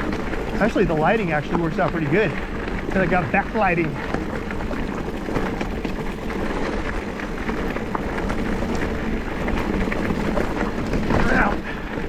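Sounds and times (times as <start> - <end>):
bike clicks and rattles: 0.0 - 12.0
bike tyre rumble on dirt: 0.0 - 12.0.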